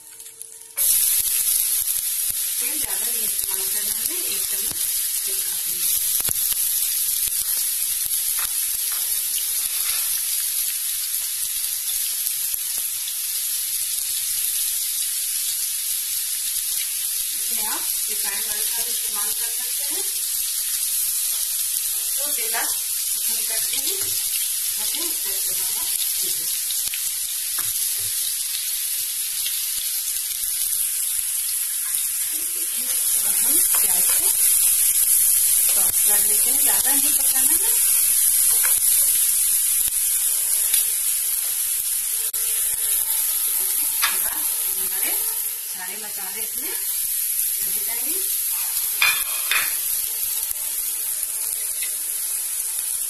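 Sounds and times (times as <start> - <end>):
onions sizzling in oil: 0.0 - 53.0.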